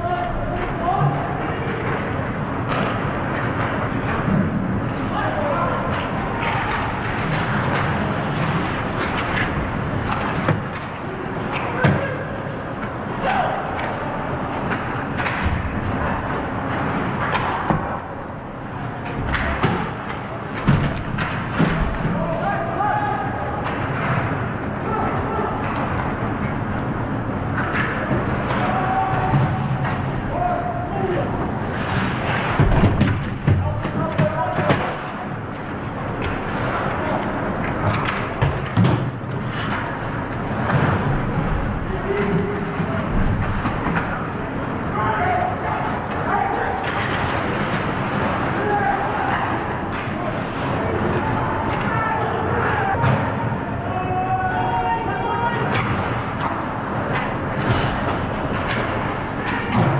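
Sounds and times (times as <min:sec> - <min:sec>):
steady crowd din: 0:00.0 - 0:59.9
stick and puck clacks: 0:00.1 - 0:22.6, 0:23.3 - 0:26.9, 0:27.5 - 0:30.6, 0:31.7 - 0:52.3, 0:55.5 - 0:59.9.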